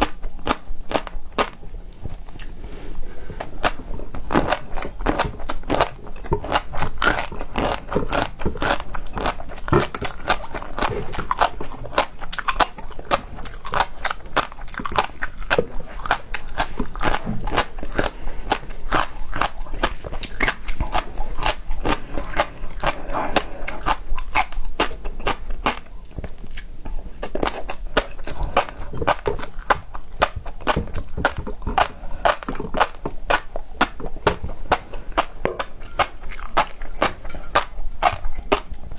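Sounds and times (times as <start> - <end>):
chewing with wet crunches: 0.0 - 38.9.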